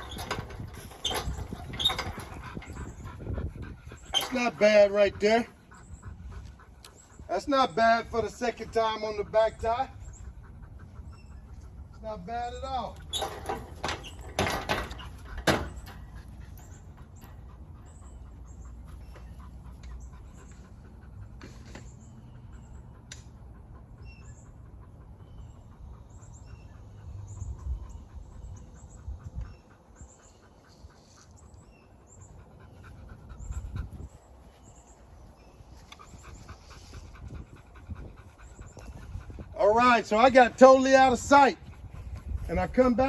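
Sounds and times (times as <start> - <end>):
puppy panting: 0.0 - 43.0.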